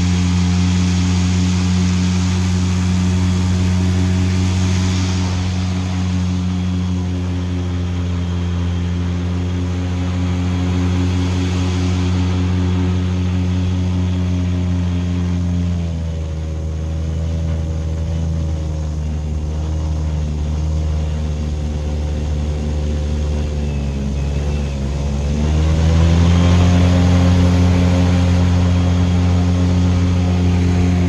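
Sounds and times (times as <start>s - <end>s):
airboat engine and propeller: 0.0s - 31.0s.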